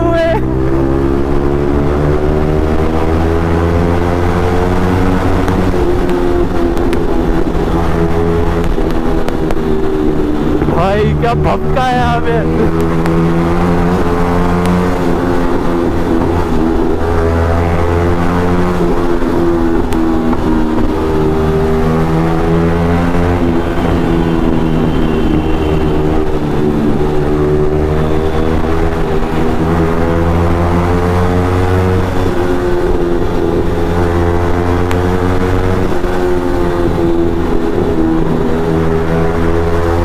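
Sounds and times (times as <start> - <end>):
motorcycle engine echoing in tunnel: 0.0 - 40.0.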